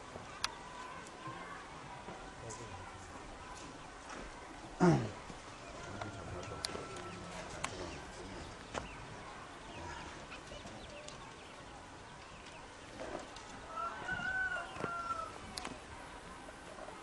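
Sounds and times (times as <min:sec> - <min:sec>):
faint rural background: 0:00.0 - 0:17.0.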